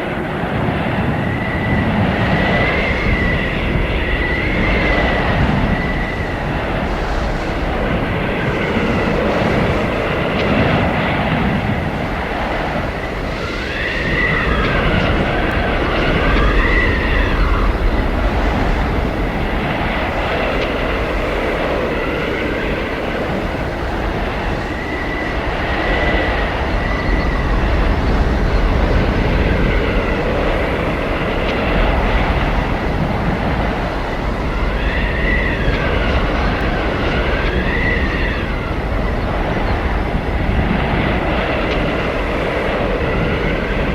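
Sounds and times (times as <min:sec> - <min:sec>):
blizzard wind rushing: 0:00.0 - 0:43.9
wind howling and whistling: 0:00.0 - 0:43.9.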